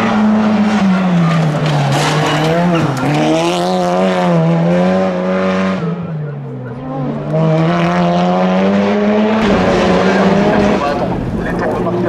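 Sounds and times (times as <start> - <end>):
race car engine: 0.0 - 12.0.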